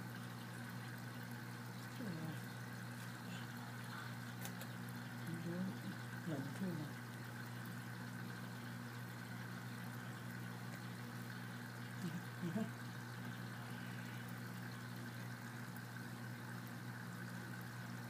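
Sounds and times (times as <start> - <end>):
fish tank pump humming: 0.0 - 18.0
water faintly moving: 0.1 - 15.9.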